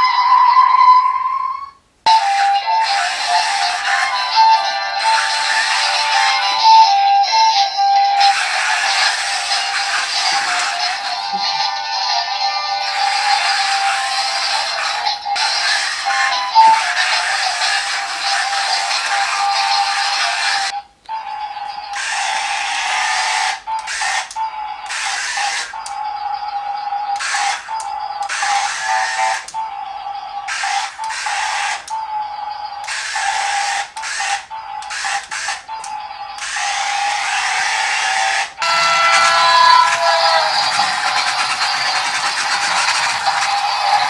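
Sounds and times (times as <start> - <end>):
toy car motors whirring: 2.1 - 20.8, 21.8 - 44.0.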